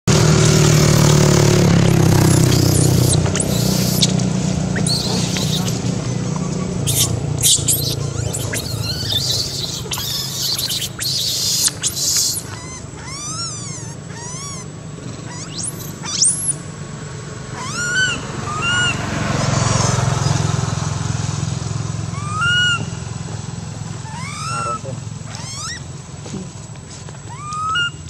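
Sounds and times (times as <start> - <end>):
baby monkey screaming: 0.1 - 16.6, 17.5 - 20.0, 22.1 - 23.0, 24.0 - 26.0, 27.3 - 28.0.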